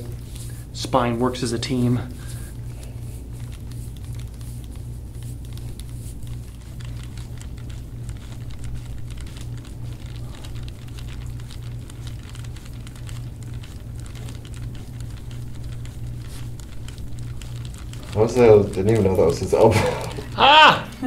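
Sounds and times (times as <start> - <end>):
skin friction clicks and crackles: 0.0 - 21.0
steady low hum: 0.0 - 21.0.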